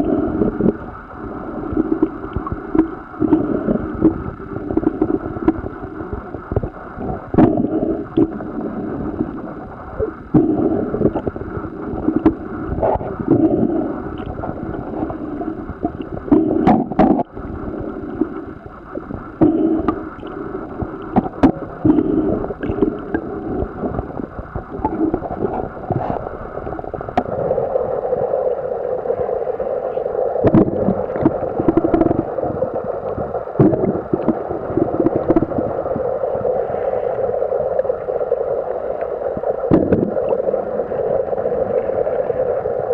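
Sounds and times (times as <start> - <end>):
underwater rumble and gurgling: 0.0 - 42.9.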